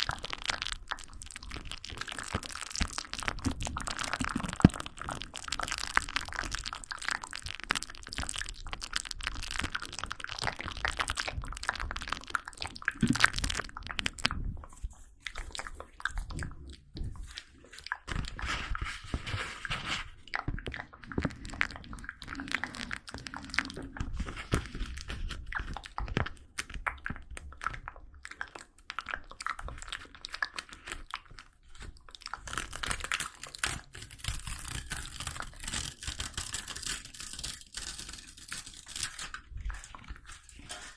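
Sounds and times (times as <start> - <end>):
crunching and crackling: 0.0 - 40.9.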